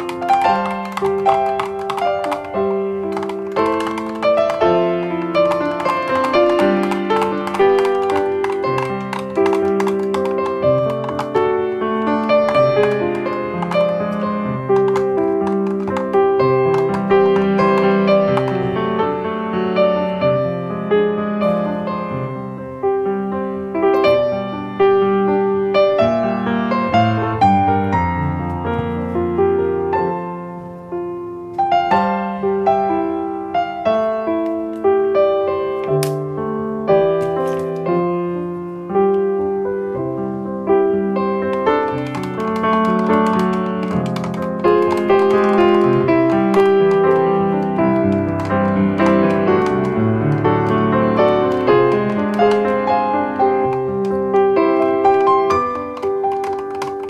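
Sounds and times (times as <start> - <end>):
gentle piano music: 0.0 - 57.0.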